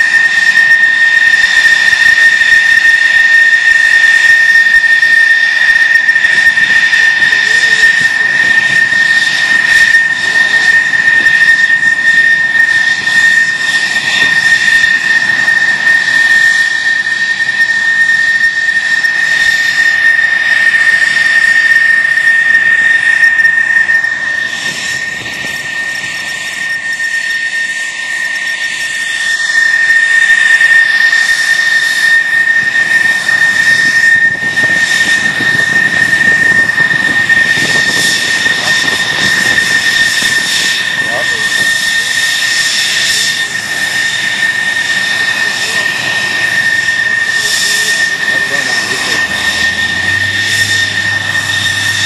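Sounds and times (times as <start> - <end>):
jet engine roaring: 0.0 - 52.0.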